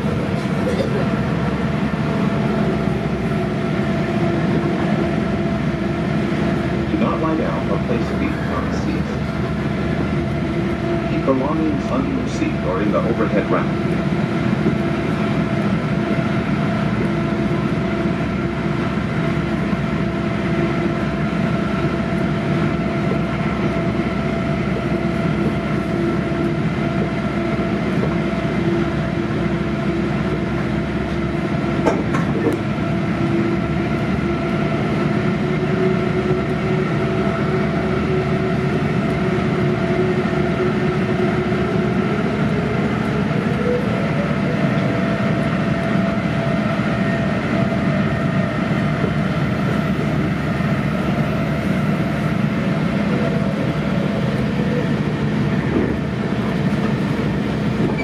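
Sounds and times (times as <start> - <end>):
train coach rumble and hum: 0.0 - 58.0.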